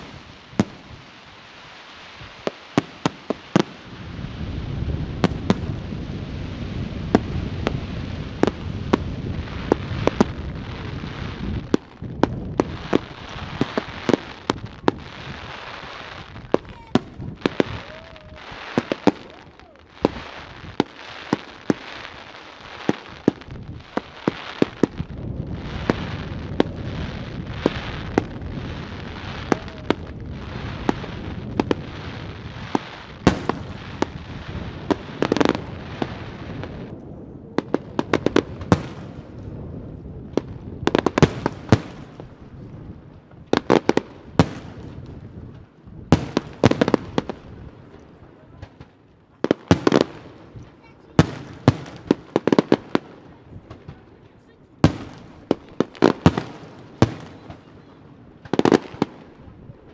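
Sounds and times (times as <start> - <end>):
crackling hiss: 0.0 - 59.9
fireworks bangs: 0.0 - 59.9.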